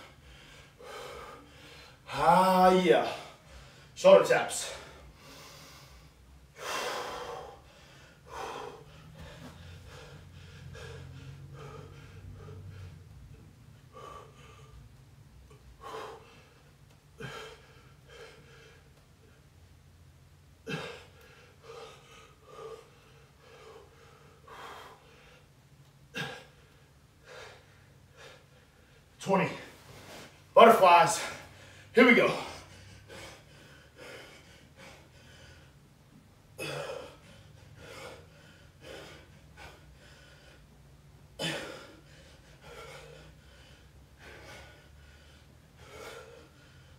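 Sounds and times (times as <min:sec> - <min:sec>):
man breathing hard: 0:00.0 - 0:19.7, 0:20.5 - 0:46.9.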